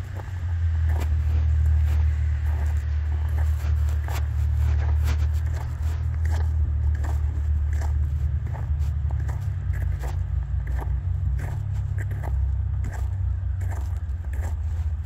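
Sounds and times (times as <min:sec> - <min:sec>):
footsteps crunching on icy snow: 0:00.0 - 0:15.0
steady low rumble: 0:00.0 - 0:15.0.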